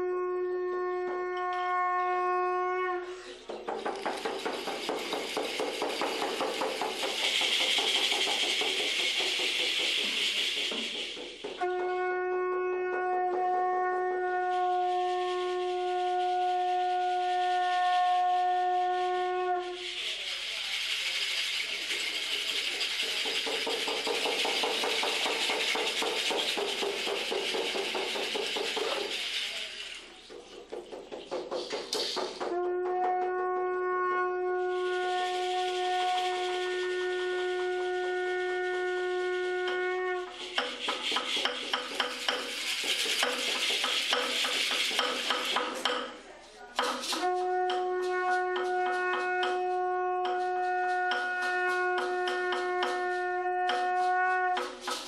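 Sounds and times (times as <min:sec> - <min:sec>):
conch shell trumpet blowing: 0:00.0 - 0:03.5, 0:04.2 - 0:30.2, 0:32.4 - 0:46.2, 0:46.9 - 0:55.0
rattles shaken: 0:03.2 - 0:11.8, 0:14.3 - 0:32.7, 0:34.7 - 0:55.0.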